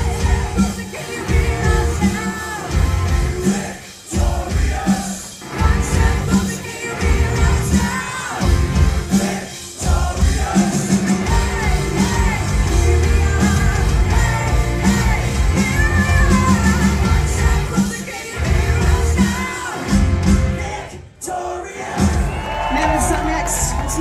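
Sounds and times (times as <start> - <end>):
woman singing lead: 0.0 - 10.6, 11.2 - 20.0
live hard rock band: 0.0 - 24.0.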